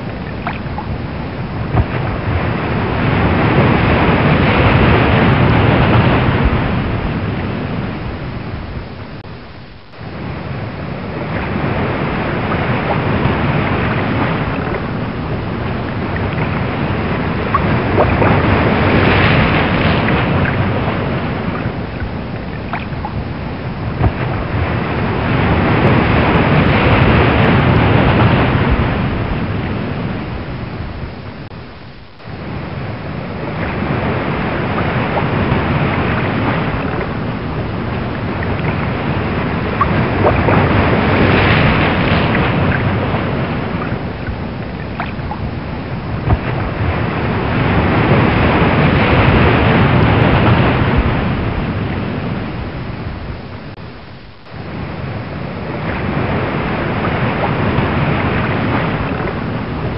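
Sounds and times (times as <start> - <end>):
ocean waves: 0.0 - 59.9
wind: 0.0 - 59.9.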